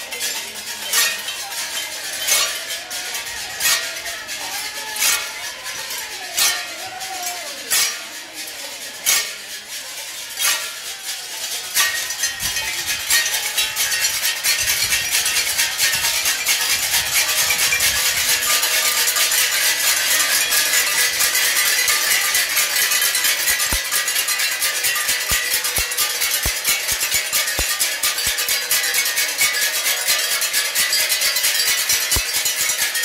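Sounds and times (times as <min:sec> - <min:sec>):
percussion strikes clattering: 0:00.1 - 0:33.0.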